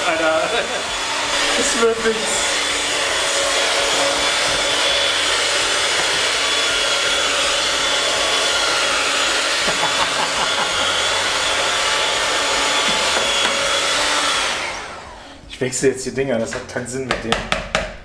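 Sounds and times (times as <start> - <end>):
beaters churning thick dough: 0.0 - 15.1
electric hand mixer whining: 0.0 - 15.5.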